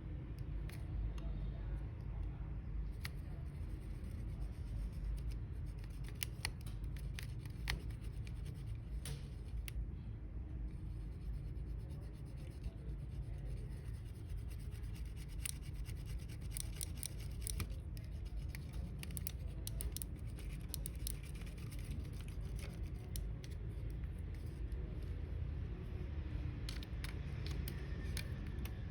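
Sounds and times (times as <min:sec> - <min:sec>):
steady low hum: 0:00.0 - 0:28.9
clicks and scratches of plastic parts: 0:00.4 - 0:01.4, 0:02.2 - 0:09.8, 0:10.7 - 0:28.9.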